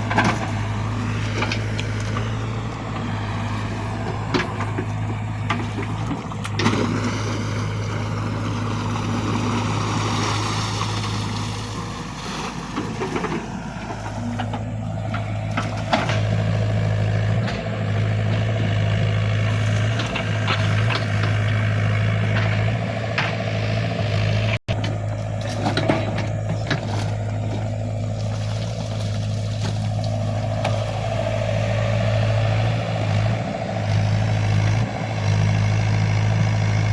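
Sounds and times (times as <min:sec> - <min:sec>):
excavator engine running: 0:00.0 - 0:36.9.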